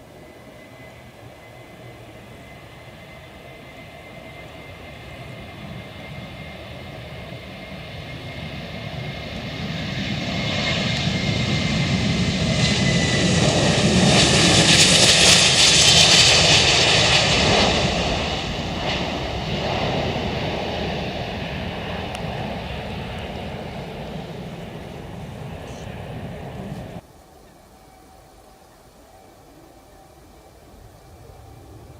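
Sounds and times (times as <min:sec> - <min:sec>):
jet airliner taking off: 0:00.0 - 0:27.0, 0:30.8 - 0:31.9.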